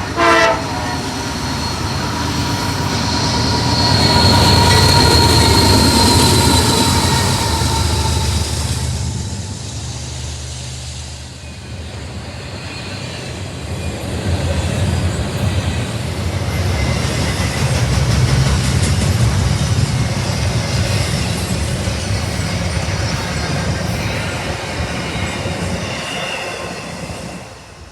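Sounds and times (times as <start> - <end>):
train wheels on rails: 0.0 - 27.9.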